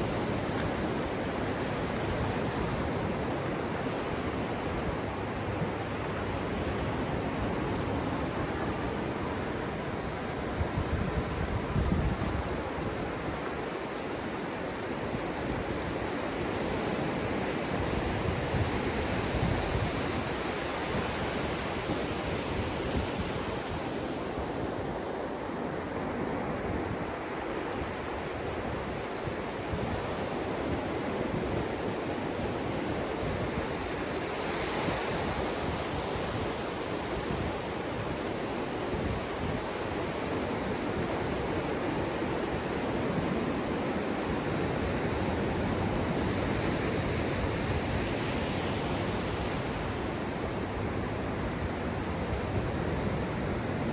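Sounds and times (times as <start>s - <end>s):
low wind rumble on microphone: 0.0s - 53.9s
ocean surf breaking on sand: 0.0s - 53.9s.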